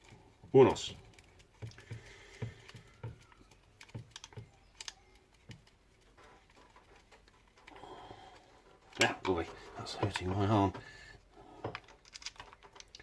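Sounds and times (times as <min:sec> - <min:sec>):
screw clicks and taps: 0:00.0 - 0:10.9, 0:11.6 - 0:13.0.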